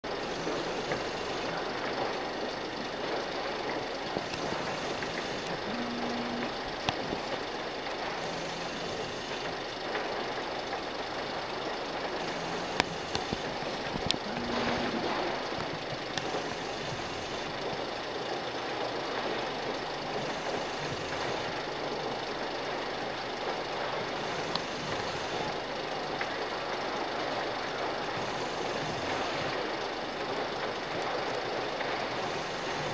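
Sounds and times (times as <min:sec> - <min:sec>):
engines droning: 0:00.0 - 0:32.9.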